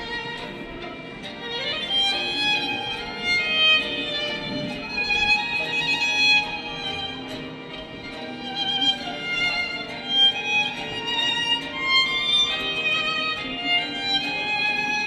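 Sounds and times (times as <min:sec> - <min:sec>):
violin ringtone melody: 0:00.0 - 0:15.0.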